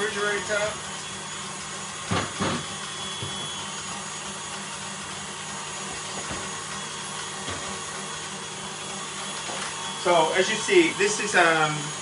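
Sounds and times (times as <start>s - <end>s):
machine hum with hiss: 0.0s - 12.0s.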